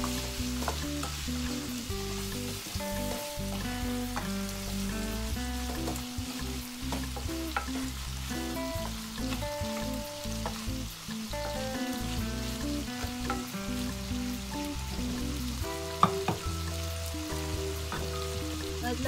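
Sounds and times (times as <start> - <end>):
food sizzling in a pan: 0.0 - 19.0
soft background music: 0.0 - 19.0.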